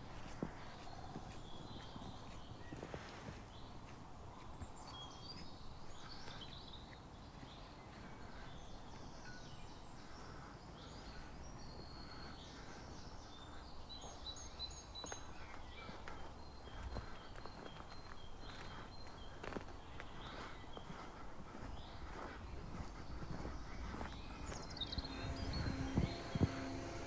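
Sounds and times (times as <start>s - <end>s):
faint outdoor ambience: 0.0s - 27.0s
small birds chirping: 0.0s - 27.0s.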